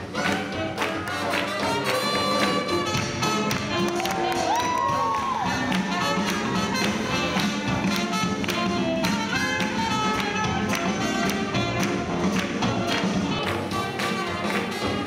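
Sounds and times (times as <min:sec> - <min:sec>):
swing jazz band playing: 0:00.0 - 0:15.0.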